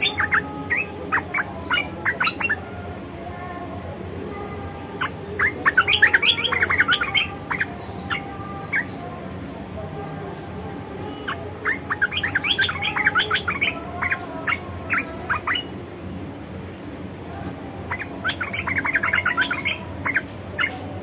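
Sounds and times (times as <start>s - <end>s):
bulbul chattering: 0.0s - 21.0s.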